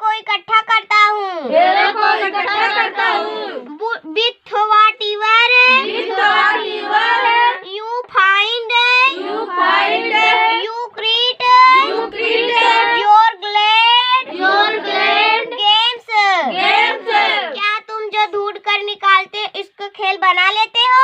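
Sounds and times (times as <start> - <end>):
girl chanting a poem: 0.0 - 21.0.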